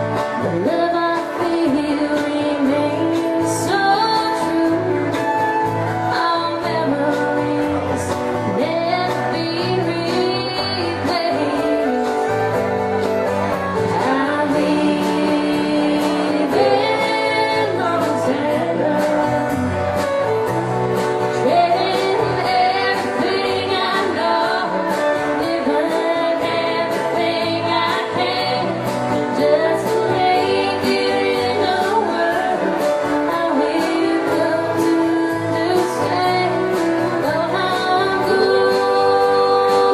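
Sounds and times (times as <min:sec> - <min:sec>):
woman singing: 0:00.0 - 0:13.0, 0:13.8 - 0:20.3, 0:21.2 - 0:39.9
country band playing: 0:00.0 - 0:39.9
guitar: 0:00.0 - 0:39.9.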